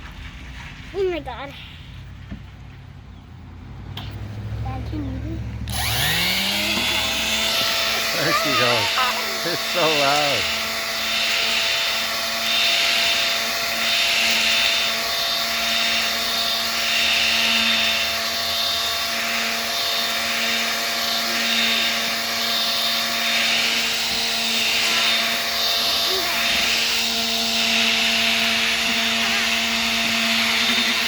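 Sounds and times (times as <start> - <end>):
electric sander on wood: 5.7 - 31.0.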